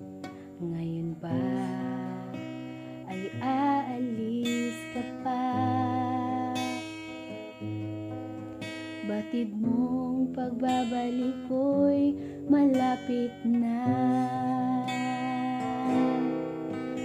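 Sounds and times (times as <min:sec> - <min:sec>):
acoustic guitar: 0:00.0 - 0:17.0
woman singing worship song: 0:00.6 - 0:07.9, 0:09.0 - 0:16.6.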